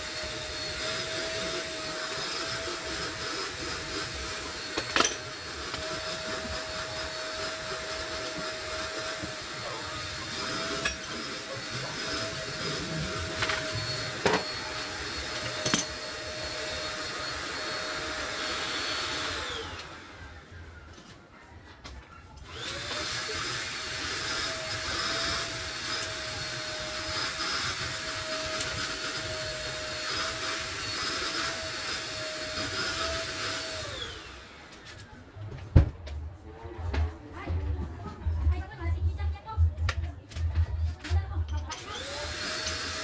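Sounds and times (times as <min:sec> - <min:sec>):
small electric motor running: 0:00.0 - 0:20.5, 0:22.4 - 0:35.2, 0:41.6 - 0:43.0.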